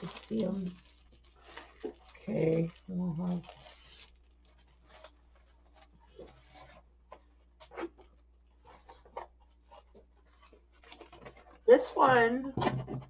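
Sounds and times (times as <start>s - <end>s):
plastic wrapping rustling: 0.0s - 12.4s.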